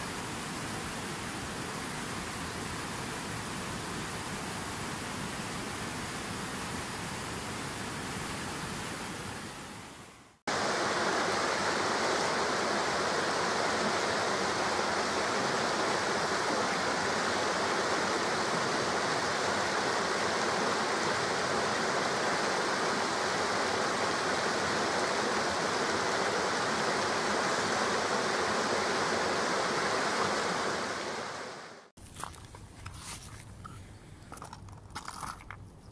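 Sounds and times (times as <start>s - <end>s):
stream cascades pouring: 0.0s - 33.4s
water rushing: 0.0s - 33.6s.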